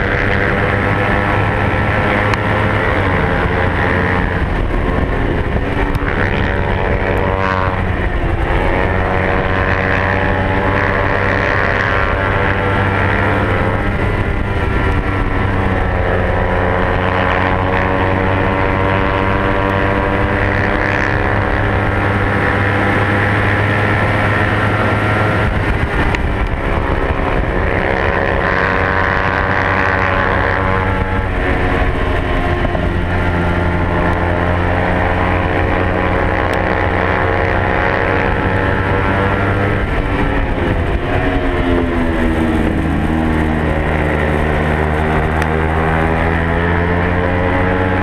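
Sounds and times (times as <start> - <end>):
motorcycle engine at high revs: 0.0 - 48.0.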